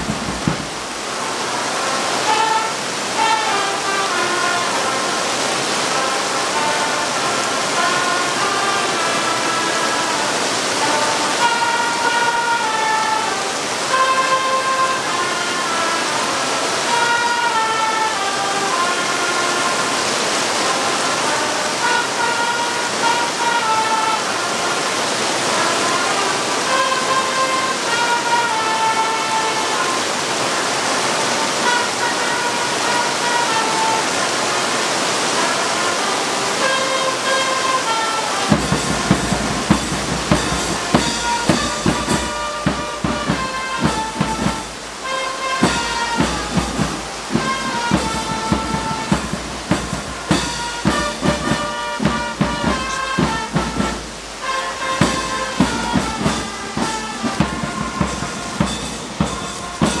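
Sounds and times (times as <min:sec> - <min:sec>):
marching band drums: 0:00.0 - 0:34.7, 0:35.4 - 1:00.0
heavy rain pouring: 0:00.0 - 1:00.0
marching band melody: 0:00.0 - 1:00.0.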